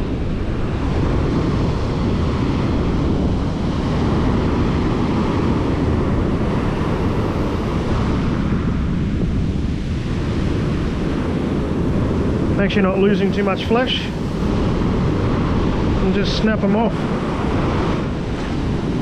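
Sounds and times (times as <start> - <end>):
surf washing over sand: 0.0 - 19.0
wind buffeting microphone: 0.0 - 19.0.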